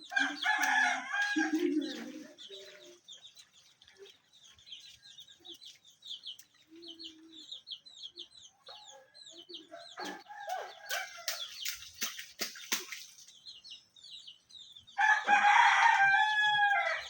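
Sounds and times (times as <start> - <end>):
chickens chirping and clucking: 0.0 - 17.0.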